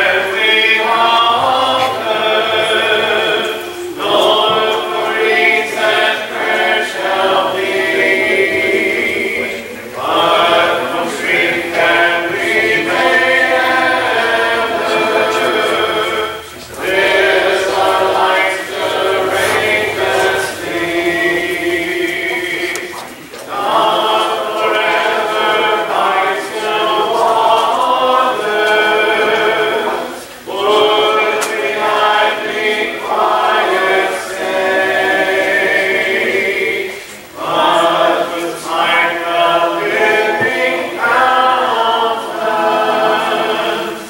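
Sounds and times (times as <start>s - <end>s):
congregation singing a hymn: 0.0s - 44.0s.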